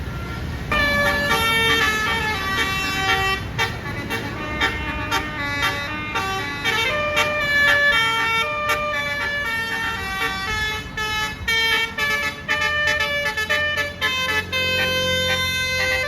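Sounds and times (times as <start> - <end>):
low engine rumble: 0.0 - 16.0
multi-tone air horn melody: 0.0 - 16.0.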